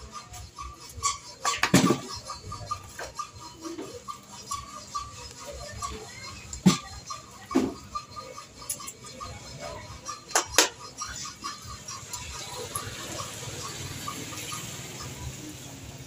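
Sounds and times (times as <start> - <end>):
peeler scraping potato: 0.0 - 15.1
faint regular ticking: 2.2 - 15.7.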